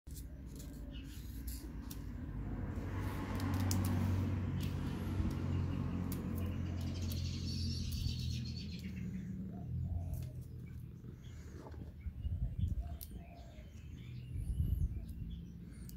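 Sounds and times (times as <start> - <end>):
birds chirping: 0.1 - 2.4, 3.5 - 15.9.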